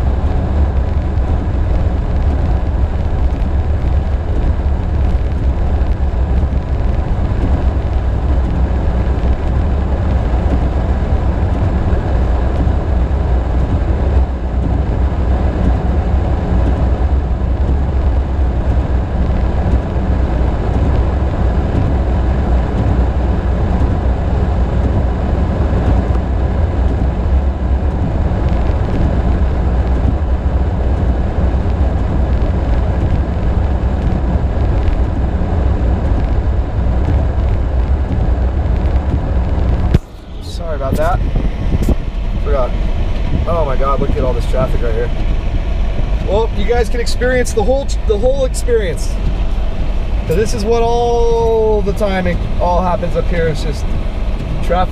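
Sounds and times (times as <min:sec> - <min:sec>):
car driving through snow: 0:00.0 - 0:54.9.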